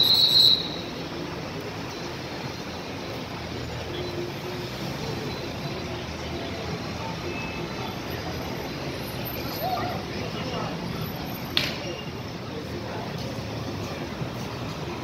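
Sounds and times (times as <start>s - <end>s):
cars moving slowly: 0.0s - 15.0s
crowd hubbub: 0.0s - 15.0s.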